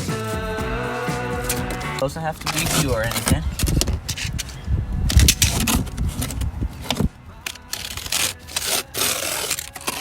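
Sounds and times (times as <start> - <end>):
rubbing and scraping handling noise: 0.0 - 10.0.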